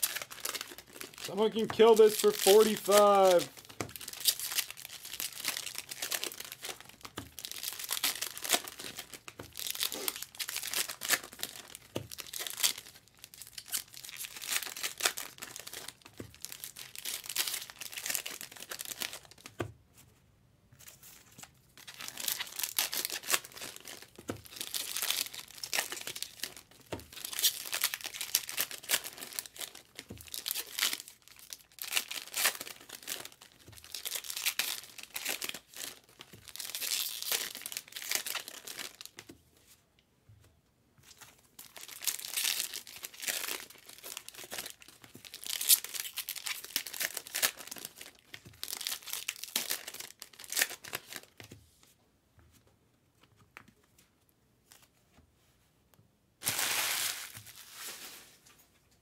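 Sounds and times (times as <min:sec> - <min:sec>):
card pack wrappers crinkling: 0:00.0 - 0:19.5, 0:21.3 - 0:39.3, 0:41.1 - 0:51.5, 0:56.4 - 0:58.5.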